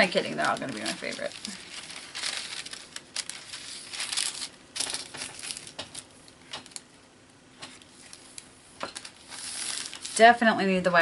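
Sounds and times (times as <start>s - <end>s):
wax paper crinkling and rustling: 0.0s - 7.0s, 7.6s - 11.0s.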